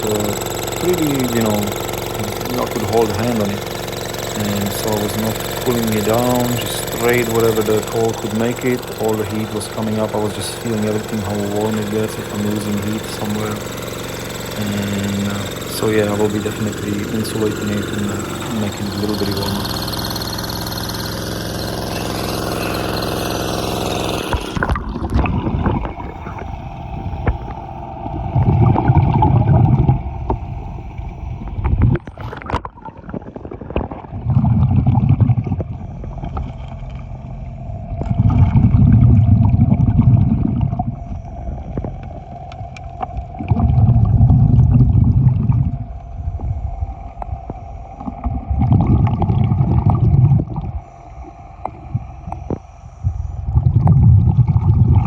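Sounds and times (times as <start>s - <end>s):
dredge engine running: 0.0s - 33.3s, 34.0s - 55.0s
faint engine hum: 0.0s - 55.0s
water gurgling: 0.0s - 55.0s.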